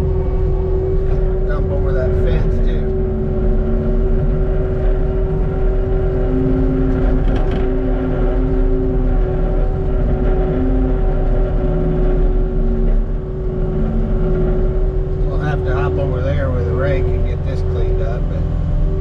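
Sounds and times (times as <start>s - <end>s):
diesel engine running hard: 0.0s - 19.0s
hydraulic whine: 0.0s - 19.0s.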